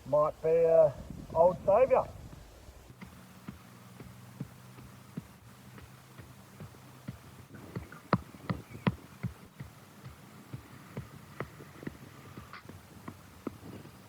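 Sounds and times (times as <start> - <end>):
heavy thumps: 1.0 - 14.0
footsteps on ground: 1.4 - 14.0.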